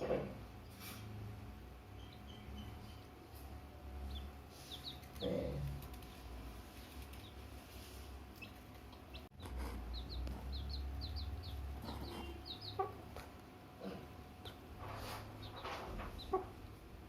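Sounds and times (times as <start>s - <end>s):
steady low hum: 0.0s - 17.0s
chicks peeping: 1.8s - 13.5s, 14.4s - 16.8s.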